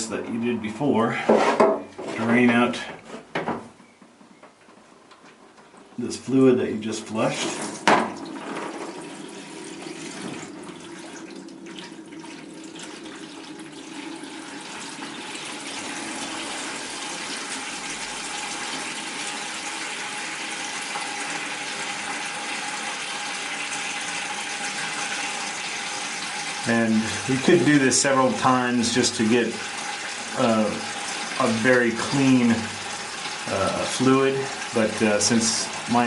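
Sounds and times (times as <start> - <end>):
water draining in a steady pour: 7.1 - 36.0.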